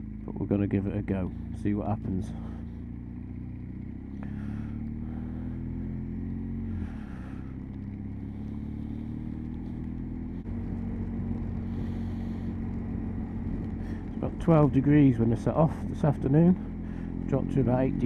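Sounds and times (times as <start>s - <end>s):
motorcycle engine accelerating: 0.0s - 18.0s
road and wind noise: 0.0s - 18.0s.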